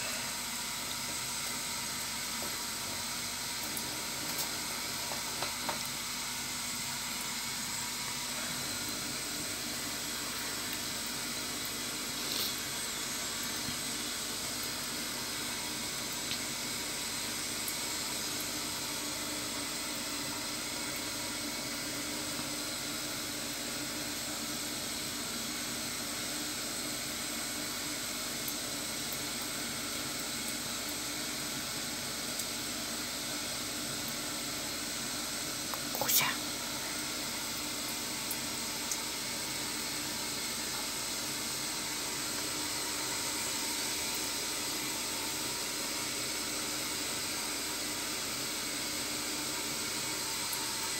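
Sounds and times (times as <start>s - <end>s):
tap water running into a sink: 0.1s - 35.9s, 36.7s - 50.9s.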